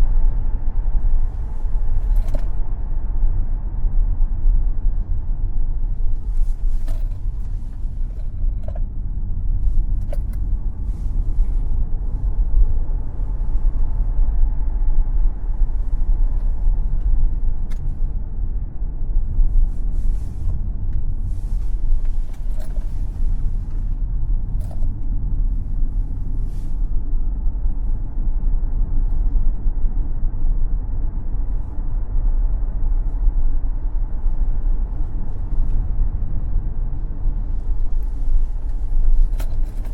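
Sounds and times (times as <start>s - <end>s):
road and wind rumble: 0.0s - 39.9s.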